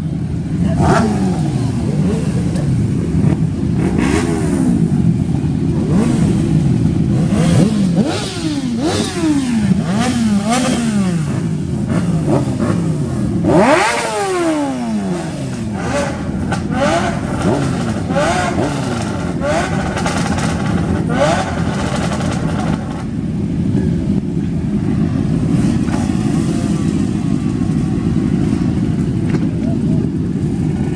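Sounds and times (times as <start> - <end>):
car engines revving: 0.0 - 30.9
engine rumble: 0.0 - 30.9.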